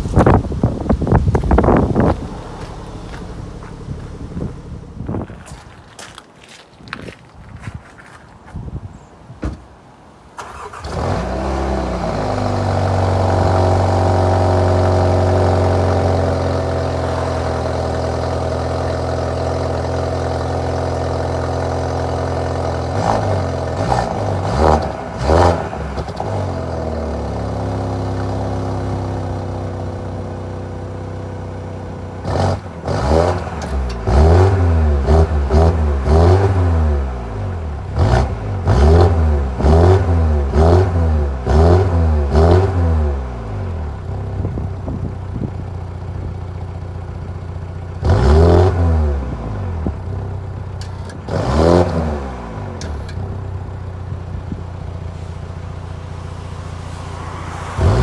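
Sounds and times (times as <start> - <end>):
car engine idling and revving: 0.0 - 6.3, 10.4 - 58.0.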